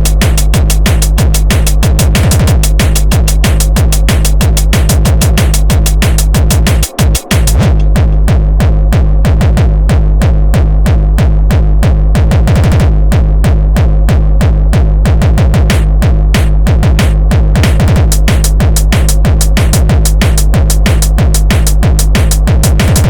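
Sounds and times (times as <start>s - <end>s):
distorted kick drum: 0.0s - 23.0s
drum roll: 0.0s - 23.0s
synthesizer: 0.0s - 23.0s.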